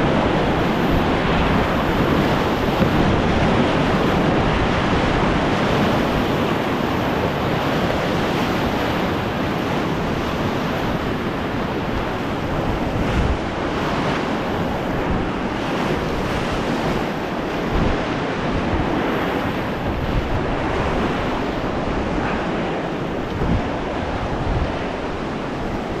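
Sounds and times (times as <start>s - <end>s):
whitewater rushing and churning: 0.0s - 26.0s
wind buffeting microphone: 0.0s - 26.0s.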